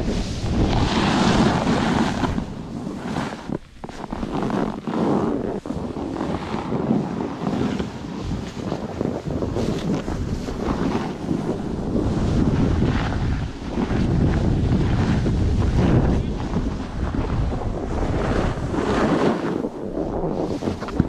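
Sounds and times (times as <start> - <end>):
snowboard scraping over snow: 0.0 - 21.0
wind buffeting microphone: 0.0 - 21.0.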